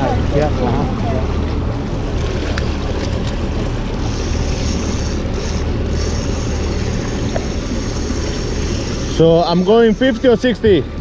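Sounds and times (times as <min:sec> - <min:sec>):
outboard motor running: 0:00.0 - 0:11.0
water rushing past hull: 0:00.0 - 0:11.0.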